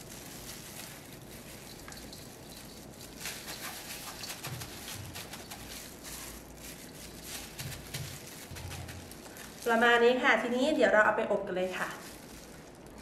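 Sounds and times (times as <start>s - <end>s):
salt grains pattering: 0.0s - 11.0s, 11.6s - 13.0s.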